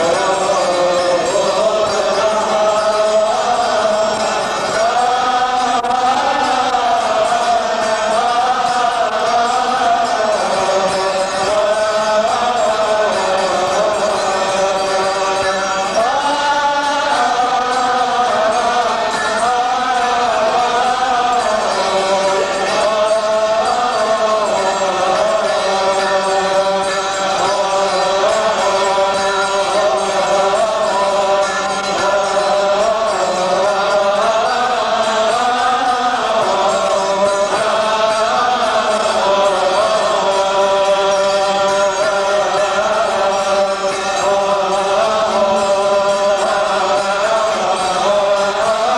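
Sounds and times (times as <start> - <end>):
liturgical chant: 0.0 - 48.9.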